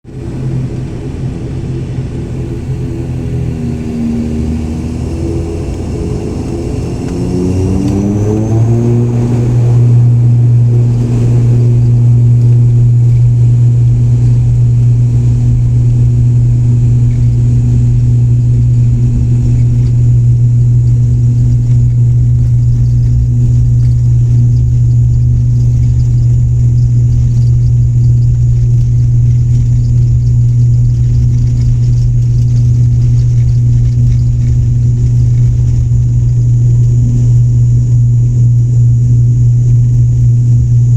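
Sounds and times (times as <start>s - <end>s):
turboprop engines spooling up: 0.1s - 40.9s.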